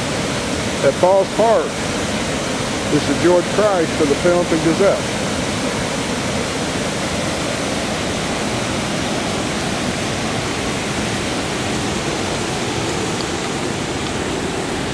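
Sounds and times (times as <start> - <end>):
water rushing over waterfall: 0.0 - 14.9.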